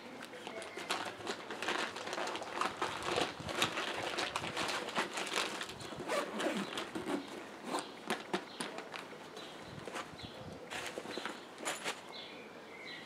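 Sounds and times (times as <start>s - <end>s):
nylon backpack rustling: 0.4s - 12.2s.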